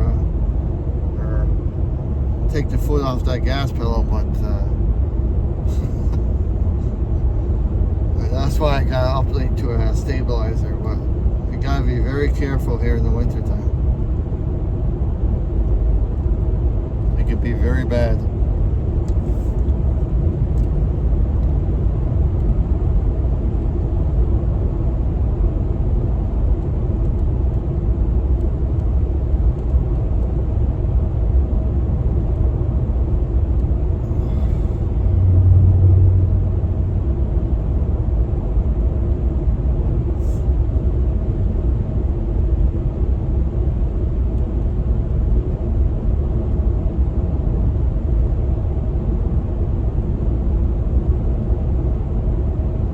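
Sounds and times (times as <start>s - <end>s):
low hum: 0.0s - 52.9s
truck engine and road rumble: 0.0s - 52.9s.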